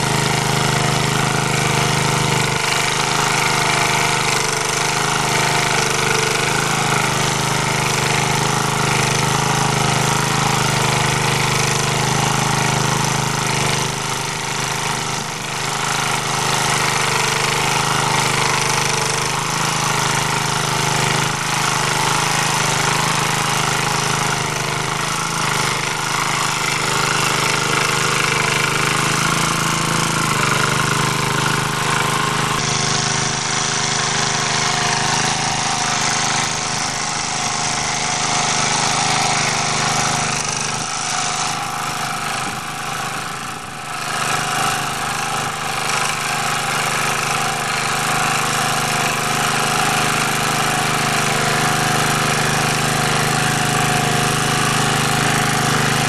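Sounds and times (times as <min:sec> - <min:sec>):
rotary tiller cutting soil: 0:00.0 - 0:56.0
tractor engine running: 0:00.0 - 0:56.0.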